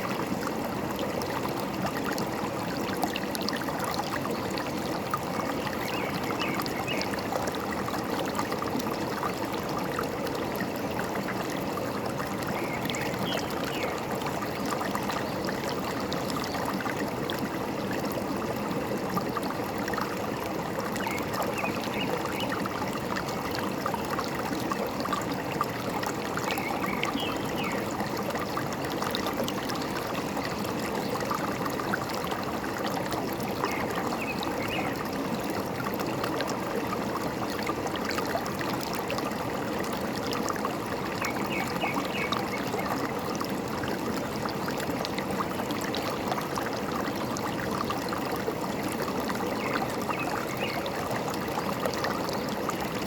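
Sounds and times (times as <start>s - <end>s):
forest stream trickling: 0.0s - 53.0s.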